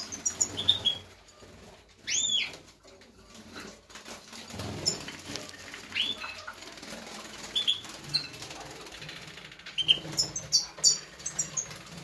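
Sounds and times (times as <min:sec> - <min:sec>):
birds fluttering and splashing: 0:00.0 - 0:12.0.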